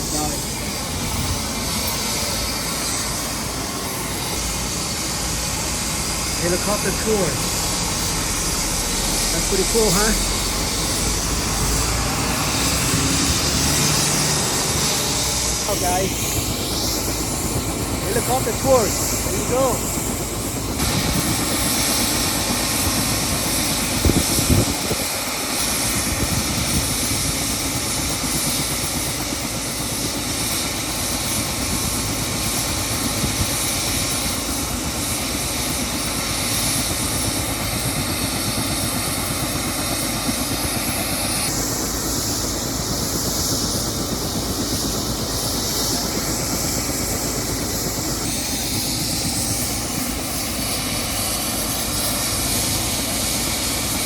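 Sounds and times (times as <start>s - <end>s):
helicopter running: 0.0s - 54.0s.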